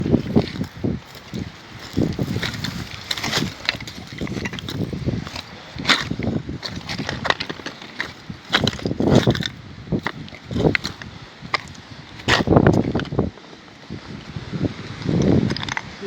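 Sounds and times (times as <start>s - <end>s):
footsteps crunching on twigs: 0.0s - 13.3s
wind buffeting microphone: 0.0s - 16.0s.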